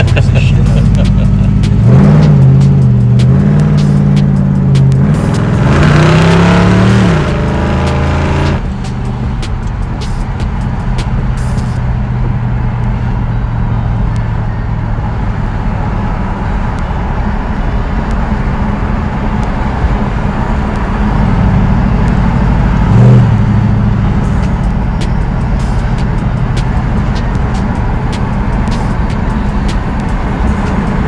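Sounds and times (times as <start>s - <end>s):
car engine running: 0.0s - 31.0s
road noise: 0.0s - 31.0s.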